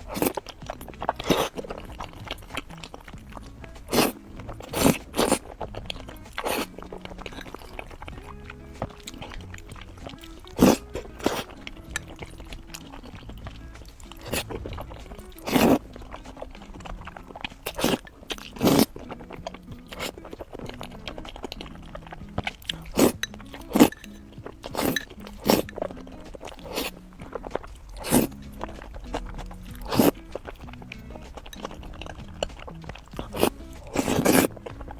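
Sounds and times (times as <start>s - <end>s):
crunchy food chewing: 0.0s - 34.9s
quiet background music: 0.0s - 34.9s.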